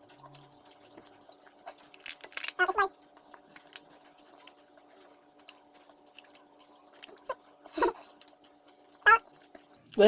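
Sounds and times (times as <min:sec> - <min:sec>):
close-up chewing crunches: 0:00.0 - 0:09.8.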